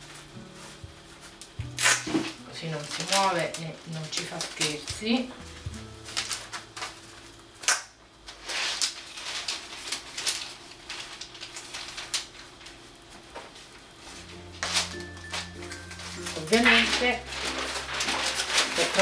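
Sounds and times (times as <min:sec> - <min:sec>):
sharp crackle: 0:00.0 - 0:05.1, 0:06.0 - 0:12.9, 0:14.6 - 0:19.0
paper and cardboard rustling: 0:00.0 - 0:07.6, 0:08.2 - 0:19.0.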